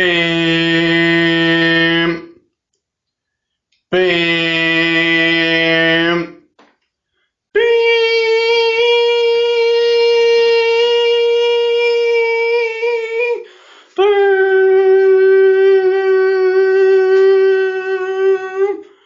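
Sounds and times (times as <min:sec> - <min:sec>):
person humming alert tone: 0:00.0 - 0:02.3, 0:04.0 - 0:06.4, 0:07.6 - 0:18.8.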